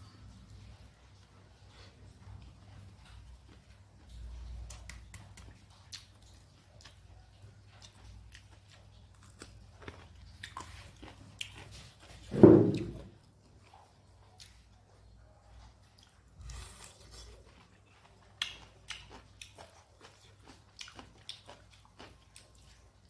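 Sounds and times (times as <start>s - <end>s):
person chewing food: 0.3s - 23.0s.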